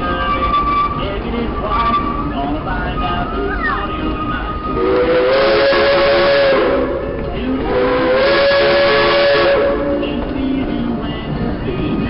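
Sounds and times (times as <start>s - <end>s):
steam locomotive whistle: 0.0s - 10.3s.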